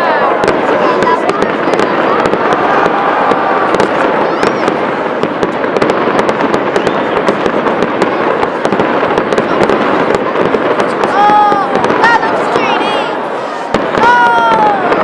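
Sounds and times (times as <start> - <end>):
dense rush of noise: 0.0 - 15.0
fireworks crackling pops: 0.0 - 15.0.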